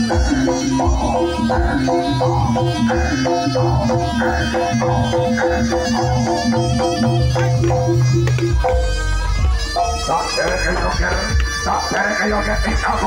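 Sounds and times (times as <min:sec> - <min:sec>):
percussion ensemble playing: 0:00.0 - 0:13.0.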